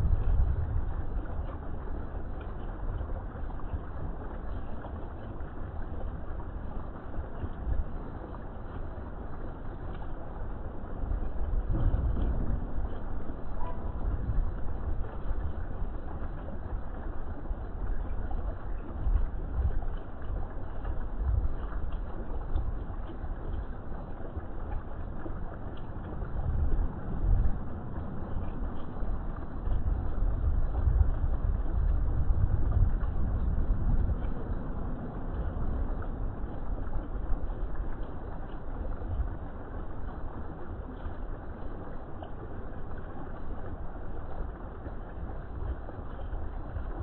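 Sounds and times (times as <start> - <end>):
fountain water splashing over rocks: 0.0 - 47.0
low uneven rumble: 0.0 - 47.0.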